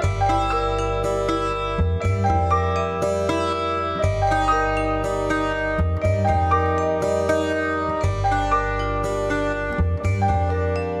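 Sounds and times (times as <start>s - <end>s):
piano violin and percussion trio: 0.0s - 11.0s.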